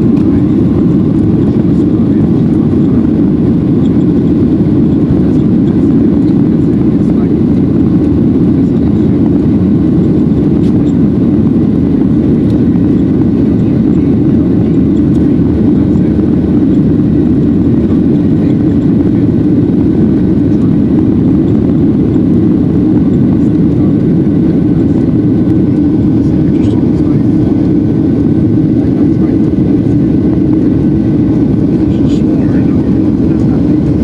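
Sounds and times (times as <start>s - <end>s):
faint steady whine: 0.0s - 34.0s
jet engines and rushing airflow: 0.0s - 34.0s.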